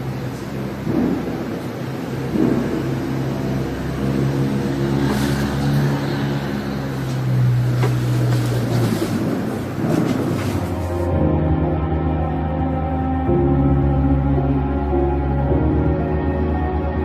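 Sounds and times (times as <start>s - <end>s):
deep rumble: 0.0s - 17.0s
low steady hum: 0.0s - 17.0s.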